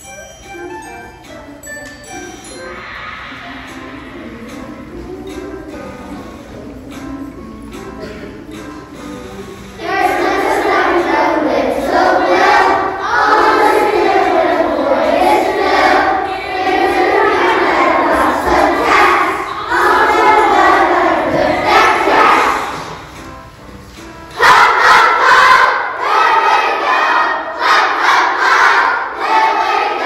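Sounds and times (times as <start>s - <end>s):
children singing in unison: 2.5s - 9.0s, 9.6s - 23.5s, 24.3s - 30.0s.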